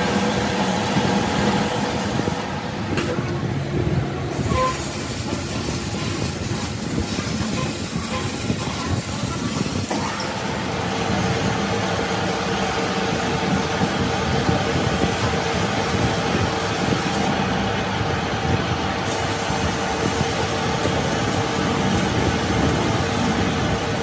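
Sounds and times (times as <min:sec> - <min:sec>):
metal lathe running: 0:04.1 - 0:24.0.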